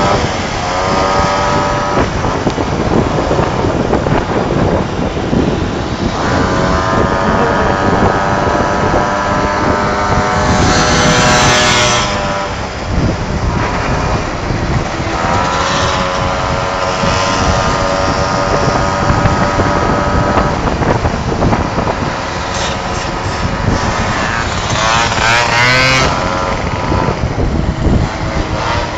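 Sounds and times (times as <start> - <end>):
moped engines running: 0.0 - 28.9
wind rumble on microphone: 0.0 - 28.9.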